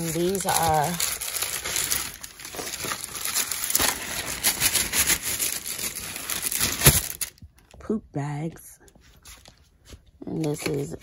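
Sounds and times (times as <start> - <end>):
plastic bags rustling and crinkling: 0.0 - 7.8, 8.9 - 11.0.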